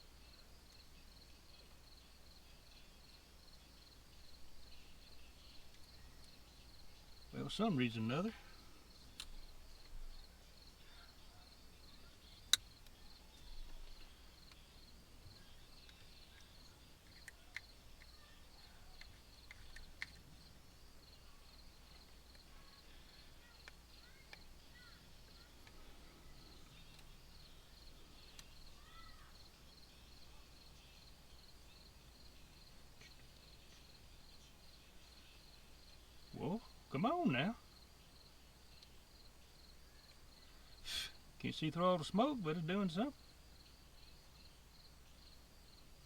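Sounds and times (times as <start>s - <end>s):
faint crickets chirping: 0.0s - 46.0s.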